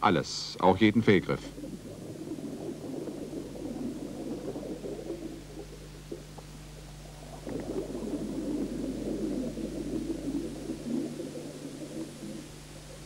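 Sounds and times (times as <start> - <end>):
steady low hum: 0.0 - 13.0
underwater bubbles burbling: 0.9 - 13.0.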